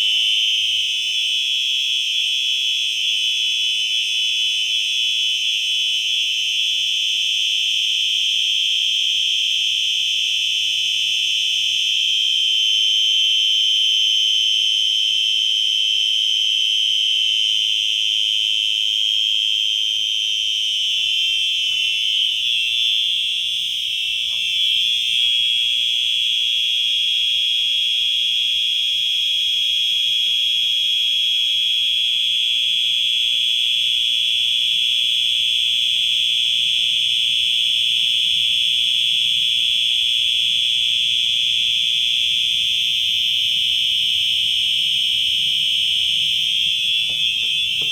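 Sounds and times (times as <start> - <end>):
fire alarm horns high-pitched tone: 0.0 - 47.9.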